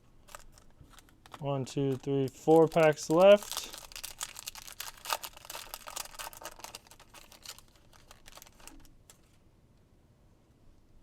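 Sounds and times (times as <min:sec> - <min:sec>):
plastic wrapper tearing and crinkling: 0:00.2 - 0:09.4.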